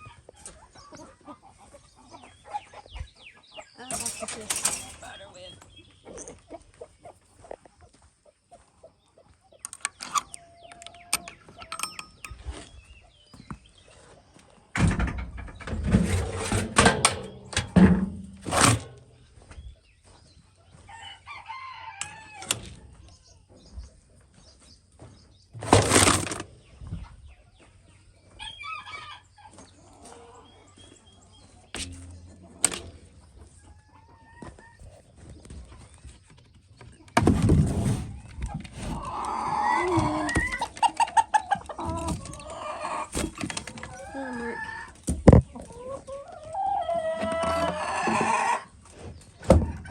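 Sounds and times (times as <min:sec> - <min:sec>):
chickens calling: 0:00.0 - 0:49.9.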